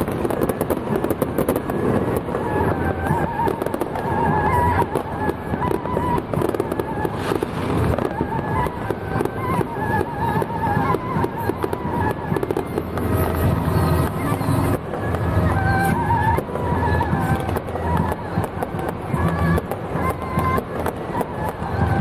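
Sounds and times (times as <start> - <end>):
fireworks crackling: 0.0 - 22.0
music playing: 0.0 - 22.0.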